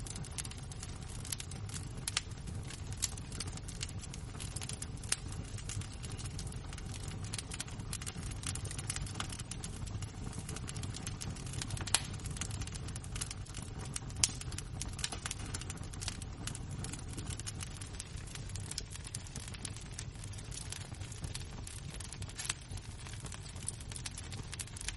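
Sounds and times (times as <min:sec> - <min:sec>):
embers crackling: 0:00.0 - 0:24.9.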